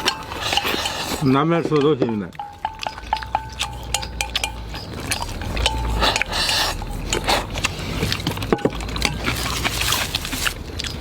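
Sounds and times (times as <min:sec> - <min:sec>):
utensils clinking on a bowl: 0:00.0 - 0:10.1.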